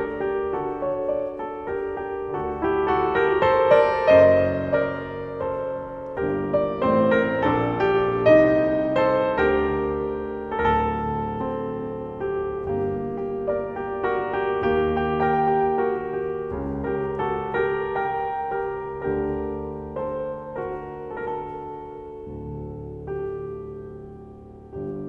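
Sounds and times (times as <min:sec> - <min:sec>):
soft piano music: 0:00.0 - 0:25.0.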